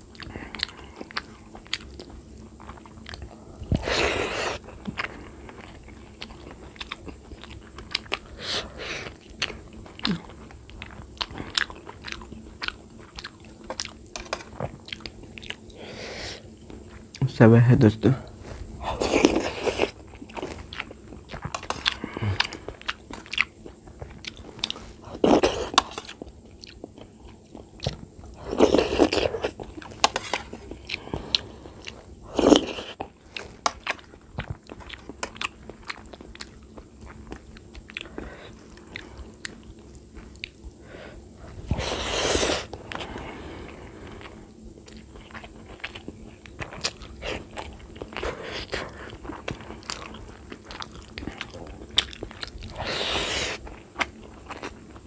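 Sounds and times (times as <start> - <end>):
person chewing food: 0.0 - 17.3, 18.3 - 55.0.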